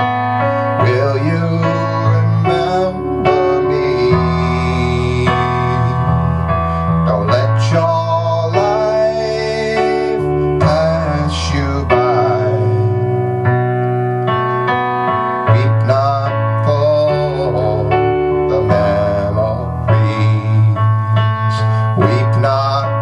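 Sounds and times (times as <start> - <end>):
keyboard playing piano chords: 0.0 - 23.0.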